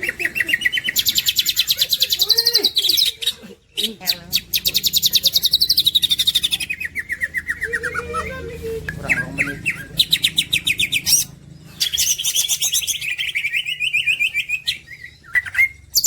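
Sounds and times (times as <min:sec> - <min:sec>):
bird singing high trills: 0:00.0 - 0:16.0.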